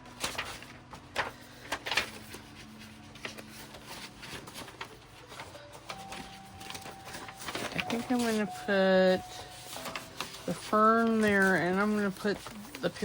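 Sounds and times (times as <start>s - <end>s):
paper pages rustling and sliding: 0.0s - 13.0s.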